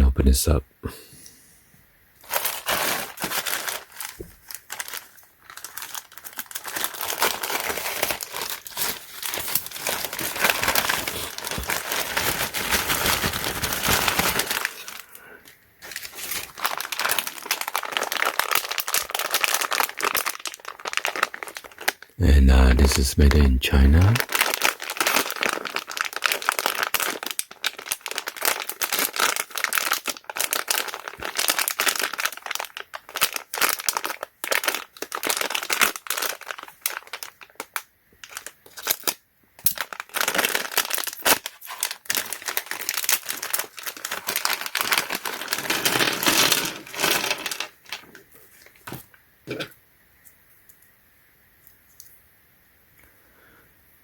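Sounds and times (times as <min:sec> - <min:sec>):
plastic packaging crinkling: 0:02.2 - 0:49.7.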